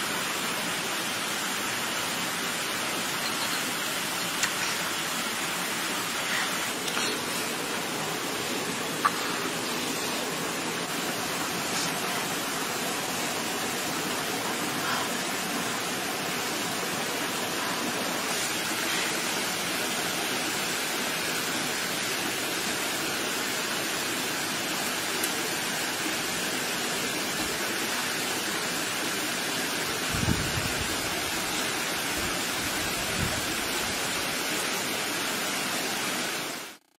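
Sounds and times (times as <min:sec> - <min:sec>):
stream flowing over rocks: 0:00.0 - 0:36.8.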